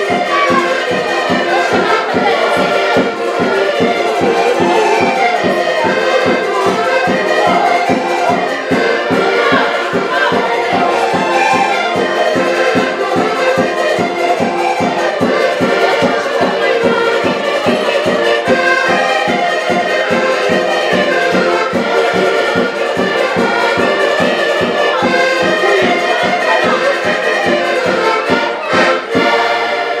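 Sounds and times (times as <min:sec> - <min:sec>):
steady low beat: 0:00.0 - 0:29.4
piano and accordions playing folk music: 0:00.0 - 0:30.0.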